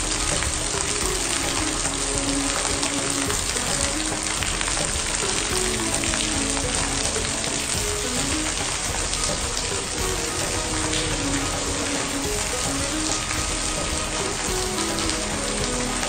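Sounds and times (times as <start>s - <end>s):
heavy rain pouring: 0.0s - 16.0s
splashes of drops: 0.0s - 16.0s.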